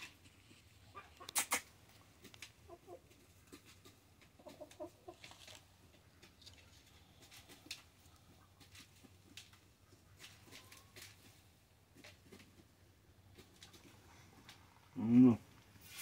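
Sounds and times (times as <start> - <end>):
chickens clucking softly: 0.0 - 15.8.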